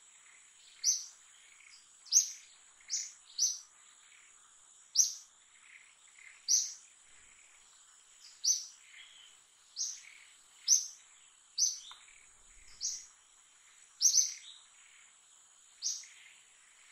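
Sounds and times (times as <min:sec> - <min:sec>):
bird chirping: 0:00.2 - 0:16.9.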